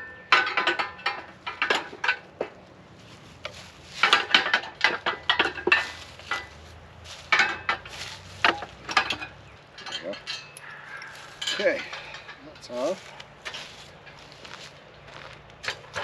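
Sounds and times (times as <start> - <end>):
metallic clinks and knocks: 0.0 - 2.6, 3.9 - 14.2.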